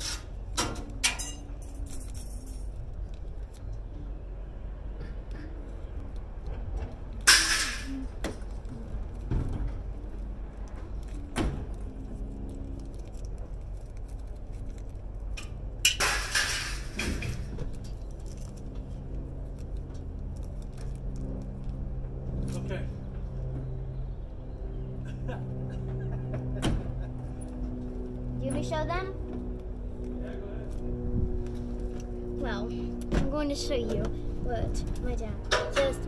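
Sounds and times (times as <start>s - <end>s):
low steady rumble: 0.0s - 36.0s.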